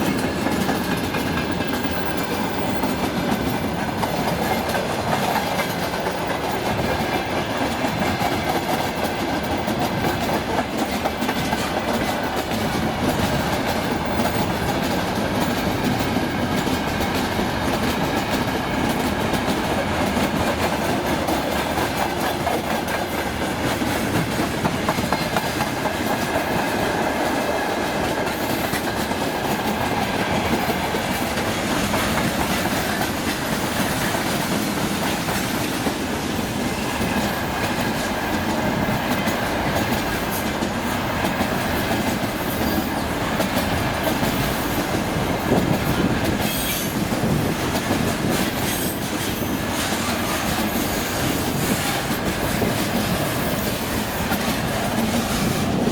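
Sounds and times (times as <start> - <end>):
freight train wheels clacking: 0.0 - 55.9.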